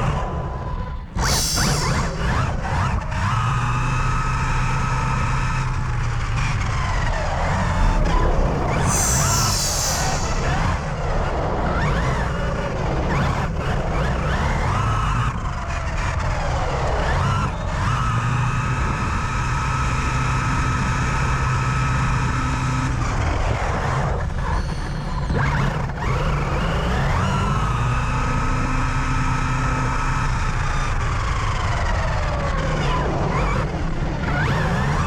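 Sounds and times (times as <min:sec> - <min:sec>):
electric motor high whine: 0:00.0 - 0:28.2.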